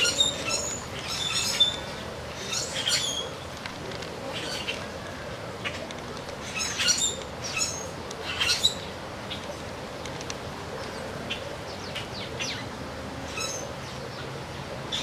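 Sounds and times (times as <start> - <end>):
small birds twittering: 0.0 - 3.6, 4.2 - 15.0
faint background hiss: 0.0 - 15.0.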